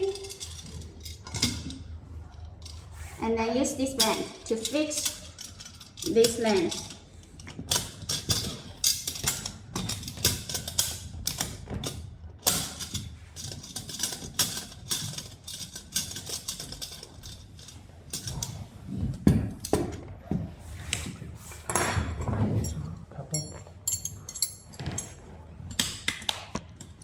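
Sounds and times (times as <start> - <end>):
metal parts clicking and clinking: 0.0 - 3.0, 3.9 - 18.6, 21.7 - 27.0.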